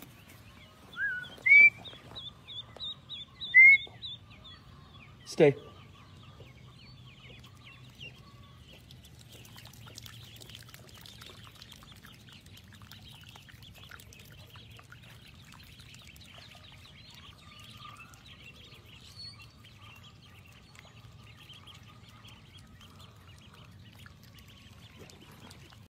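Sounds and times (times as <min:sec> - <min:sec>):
goslings peeping: 0:00.0 - 0:25.9
low steady hum: 0:00.0 - 0:25.9.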